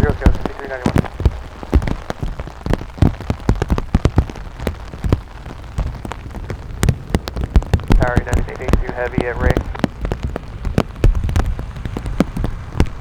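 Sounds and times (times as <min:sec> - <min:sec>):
rain falling: 0:00.0 - 0:13.0
raindrops tapping near microphone: 0:00.0 - 0:13.0
steady low rumble: 0:00.0 - 0:13.0.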